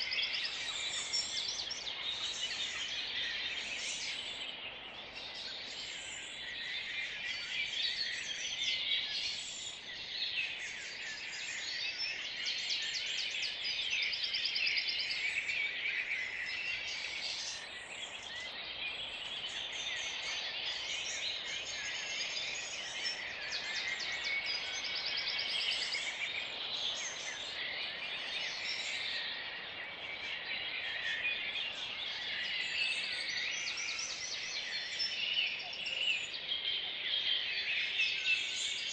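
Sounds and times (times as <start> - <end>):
many songbirds singing: 0.0 - 38.9.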